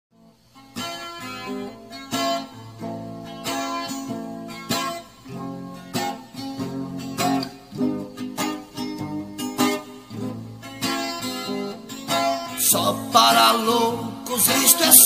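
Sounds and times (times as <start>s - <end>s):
guitar strumming chords: 0.2s - 15.0s.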